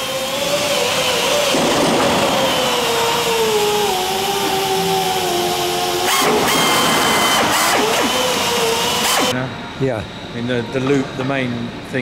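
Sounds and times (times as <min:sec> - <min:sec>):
machine motor whine: 0:00.0 - 0:12.0.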